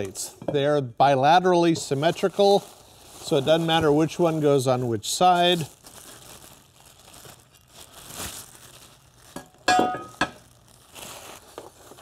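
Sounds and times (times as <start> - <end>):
plastic bags crinkling: 1.2 - 12.0.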